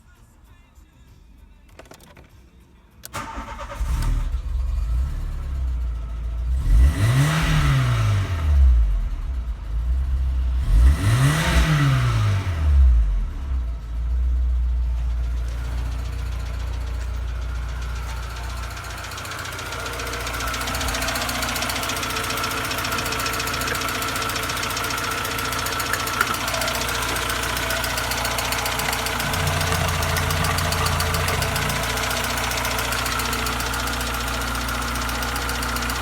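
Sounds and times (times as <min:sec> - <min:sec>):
car engine starting and revving: 0:03.0 - 0:36.0.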